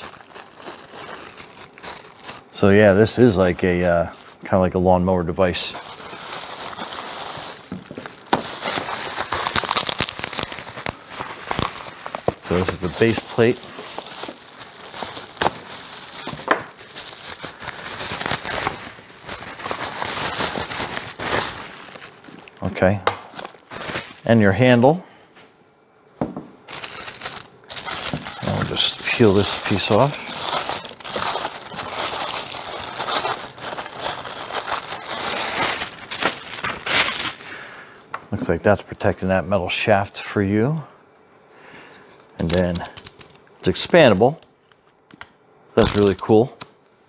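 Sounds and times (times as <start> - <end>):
packaging crinkling: 0.0 - 24.3, 26.7 - 37.7, 42.4 - 45.1, 45.8 - 46.7.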